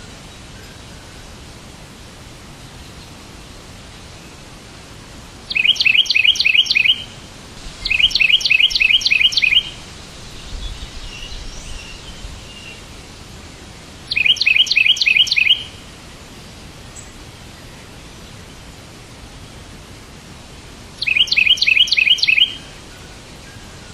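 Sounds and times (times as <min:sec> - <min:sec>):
background hiss: 0:00.0 - 0:23.9
songbird chirping: 0:02.5 - 0:19.0, 0:21.0 - 0:23.9.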